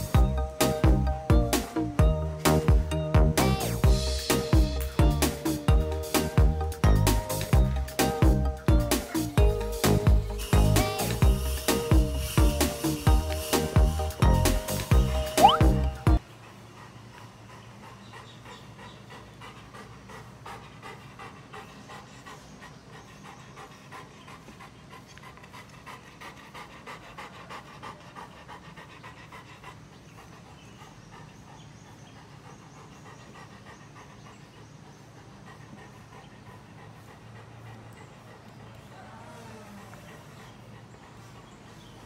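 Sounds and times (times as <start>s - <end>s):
dog panting: 0.0s - 42.0s.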